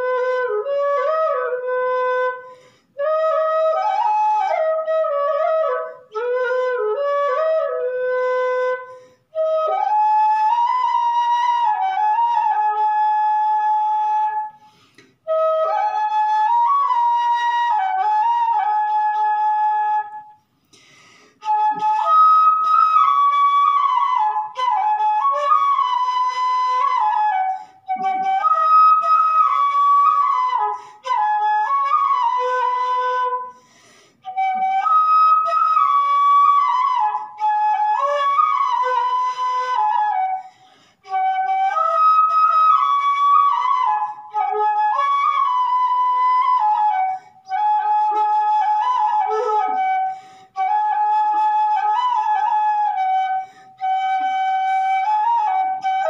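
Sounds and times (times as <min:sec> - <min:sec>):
bamboo flute melody: 0:00.0 - 0:56.0.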